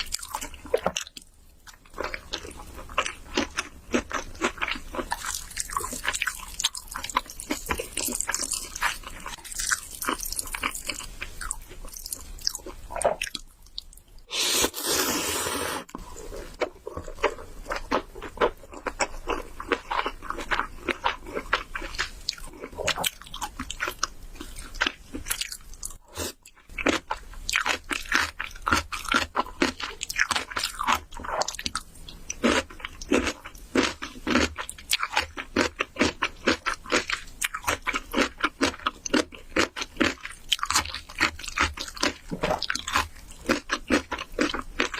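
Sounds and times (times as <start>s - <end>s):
person chewing and crunching food: 0.0s - 44.9s.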